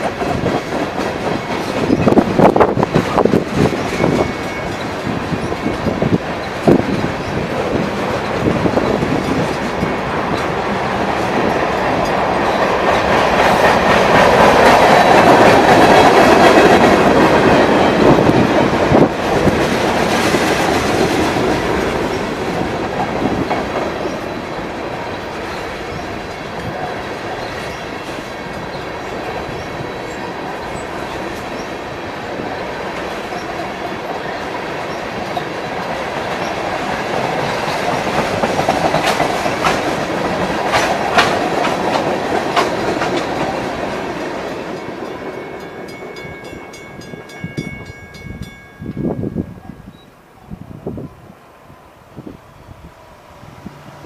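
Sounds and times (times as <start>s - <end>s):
wheels clacking over rails: 0.0s - 48.0s
freight train rumble: 0.0s - 54.0s.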